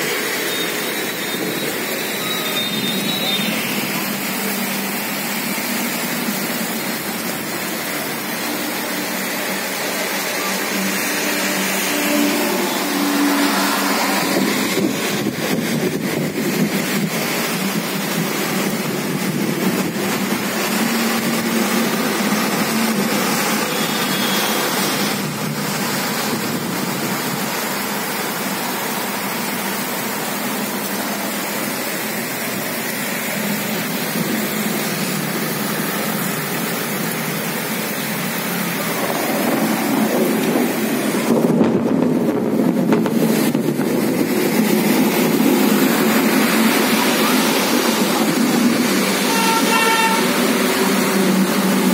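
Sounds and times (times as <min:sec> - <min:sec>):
heavy rain: 0:00.0 - 0:51.9
wind: 0:00.0 - 0:51.9.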